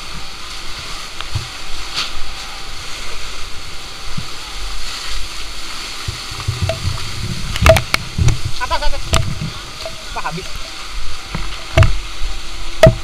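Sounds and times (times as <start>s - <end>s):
fire hose spraying water: 0.0s - 13.0s.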